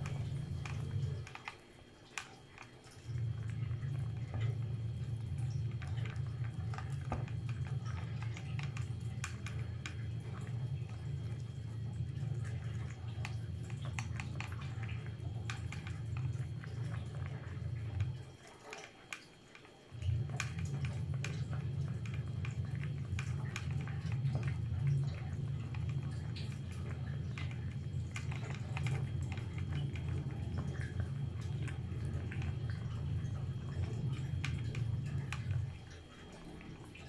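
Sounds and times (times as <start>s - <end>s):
soft chewing clicks: 0.0s - 37.0s
steady low hum: 0.0s - 37.0s.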